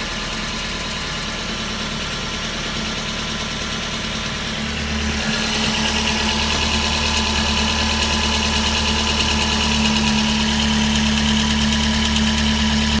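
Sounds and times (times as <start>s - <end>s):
car engine idling: 0.0s - 13.0s
light engine rattle: 0.0s - 13.0s.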